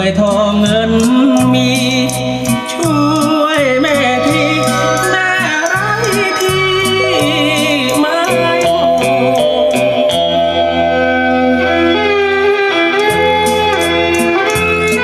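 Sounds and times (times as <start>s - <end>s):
instrumental music over loudspeakers: 0.0s - 15.0s.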